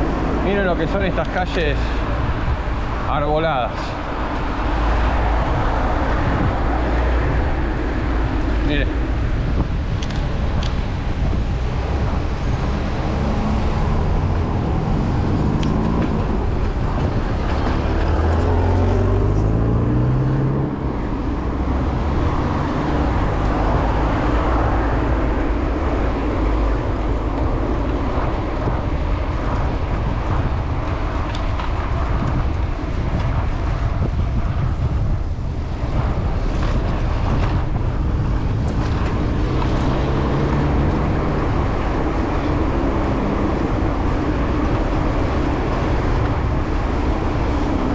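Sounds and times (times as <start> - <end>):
traffic rumble: 0.0 - 47.9
vehicle engine accelerating: 3.8 - 47.9.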